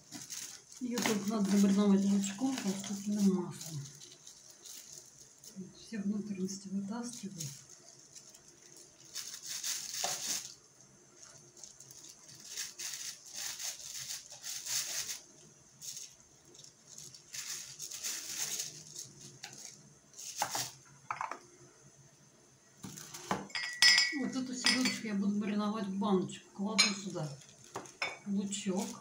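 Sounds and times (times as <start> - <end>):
plastic bag crinkling: 0.0 - 21.4, 22.8 - 23.6, 27.0 - 29.0.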